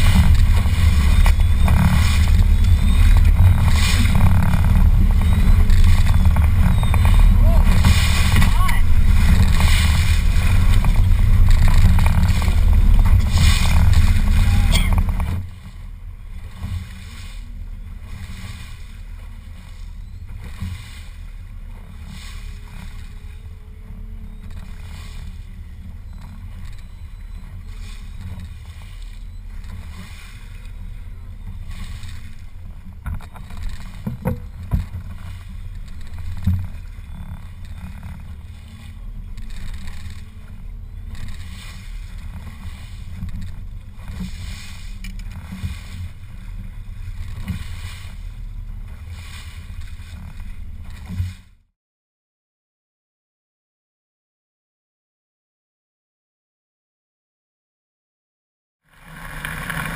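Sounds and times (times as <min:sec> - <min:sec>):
boat motor running: 0:00.0 - 0:51.7, 0:58.8 - 0:59.9.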